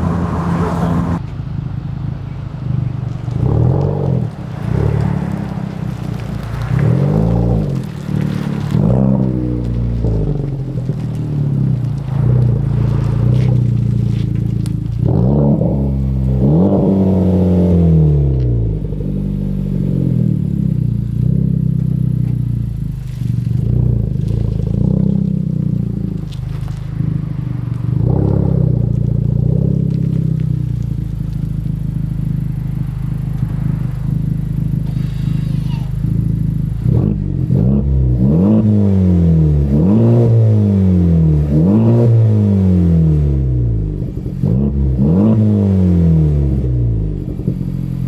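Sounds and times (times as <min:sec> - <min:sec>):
car engine revving: 0:00.0 - 0:48.0
deep exhaust note: 0:00.0 - 0:48.0.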